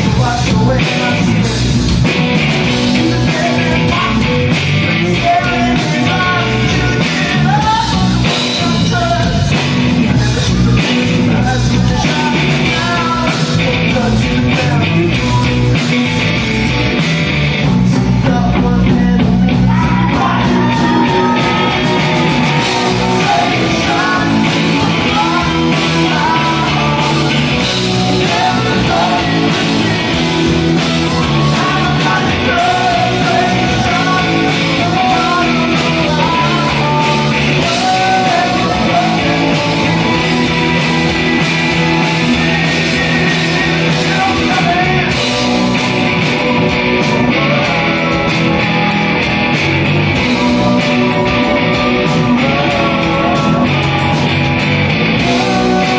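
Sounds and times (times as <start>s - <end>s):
man singing: 0.0s - 16.4s, 17.6s - 49.2s, 50.2s - 54.6s, 55.2s - 55.9s
distorted electric guitar: 0.0s - 55.9s
live rock band playing: 0.0s - 55.9s.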